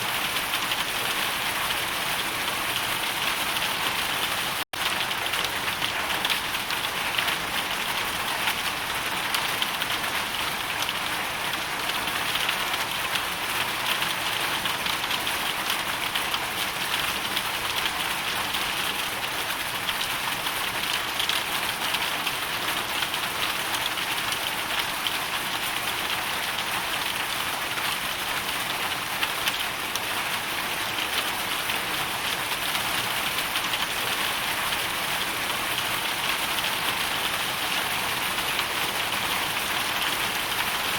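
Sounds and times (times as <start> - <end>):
hail and rain pattering: 0.0 - 40.9.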